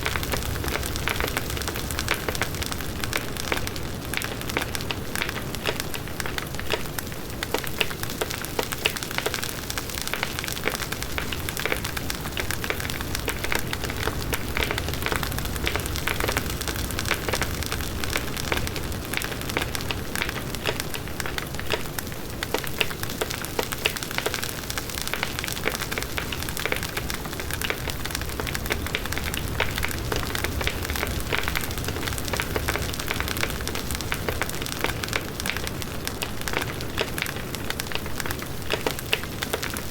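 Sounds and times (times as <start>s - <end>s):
bonfire flames blazing: 0.0s - 39.9s
wood crackling and popping: 0.0s - 39.9s.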